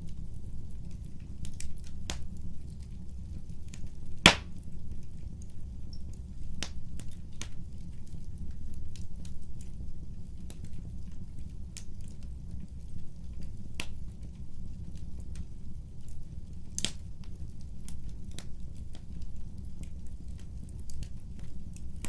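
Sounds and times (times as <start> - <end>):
fire crackles and pops: 0.0 - 22.0
wood fire rumble: 0.0 - 22.0.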